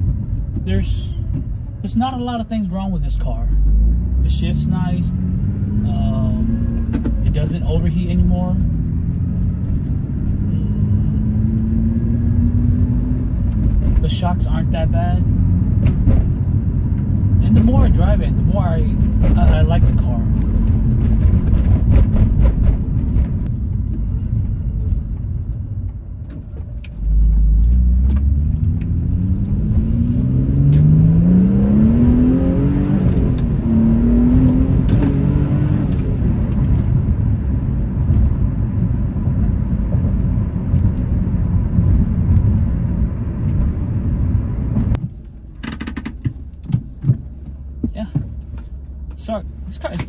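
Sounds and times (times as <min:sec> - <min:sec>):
road noise: 0:00.0 - 0:50.0
car engine accelerating: 0:03.4 - 0:45.1.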